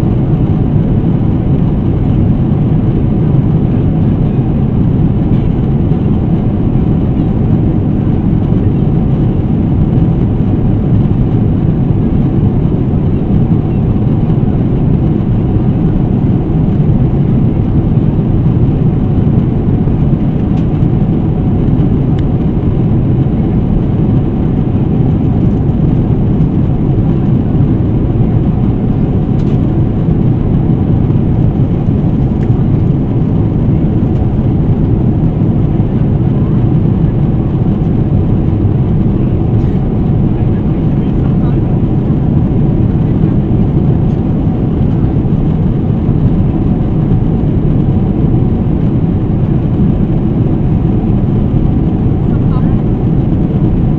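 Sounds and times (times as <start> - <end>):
airplane cabin rumble: 0.0 - 53.9.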